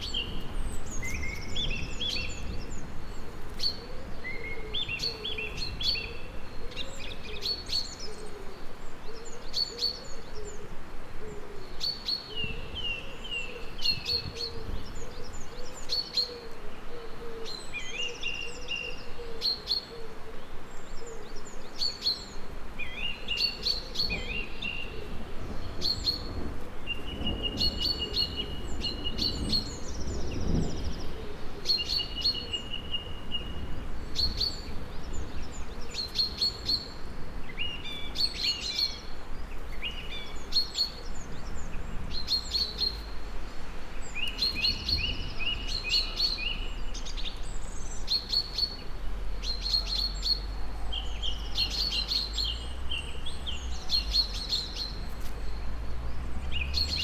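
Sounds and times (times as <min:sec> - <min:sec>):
songbirds chirping and singing: 0:11.4 - 0:57.0.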